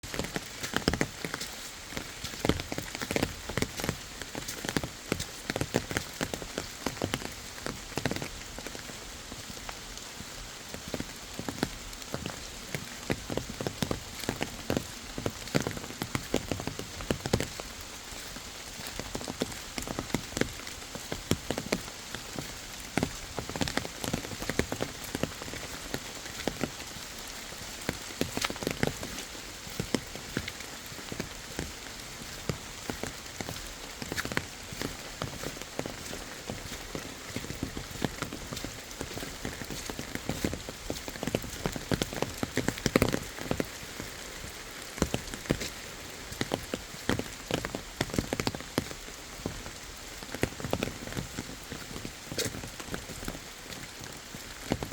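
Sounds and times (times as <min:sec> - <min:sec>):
raindrops tapping: 0:00.0 - 0:54.9
steady rain falling: 0:00.0 - 0:54.9.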